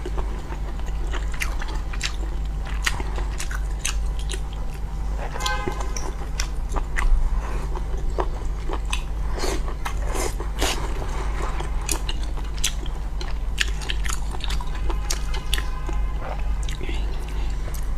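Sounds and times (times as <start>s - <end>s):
low hum: 0.0s - 17.9s
person chewing and crunching: 0.0s - 17.9s.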